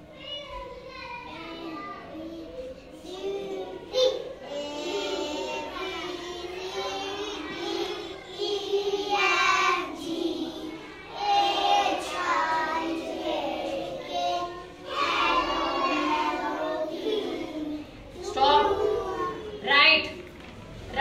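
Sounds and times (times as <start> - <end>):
children singing together: 1.3 - 19.6.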